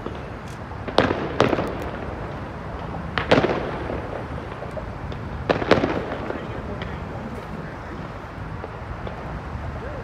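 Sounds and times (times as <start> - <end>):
fireworks bangs with echo: 0.0 - 9.8.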